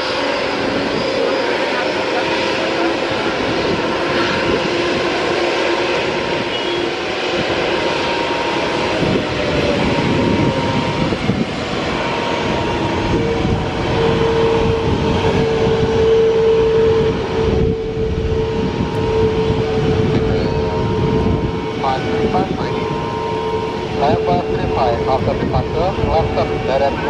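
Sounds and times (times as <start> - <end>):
jet engines roaring and whining: 0.0 - 27.0
strong steady whine: 0.0 - 27.0.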